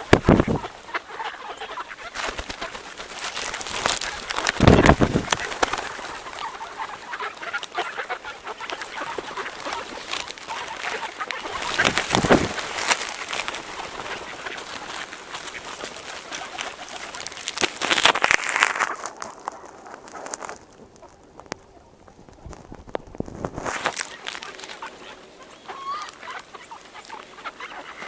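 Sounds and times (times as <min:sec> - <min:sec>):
flock of birds chattering: 0:00.0 - 0:28.0.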